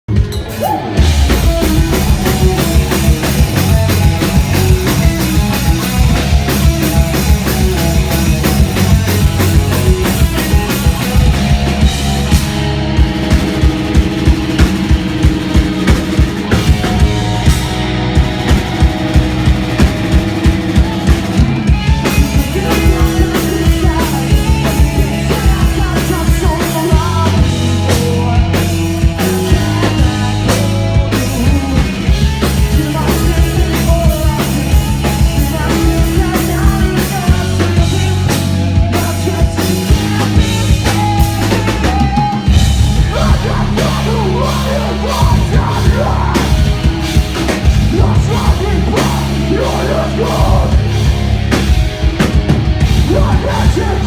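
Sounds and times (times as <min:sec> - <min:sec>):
drum kit beat: 0:00.1 - 0:54.0
rock band playing live: 0:00.1 - 0:54.0.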